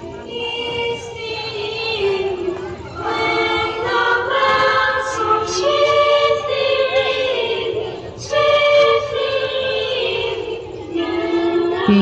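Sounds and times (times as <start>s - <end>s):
group singing long notes: 0.0s - 12.0s.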